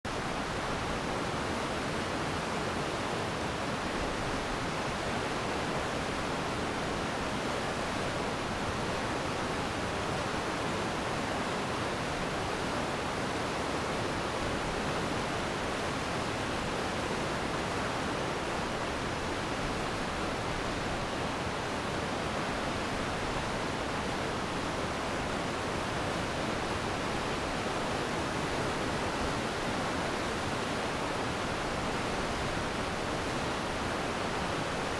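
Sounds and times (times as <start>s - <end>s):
stream rushing: 0.1s - 34.9s.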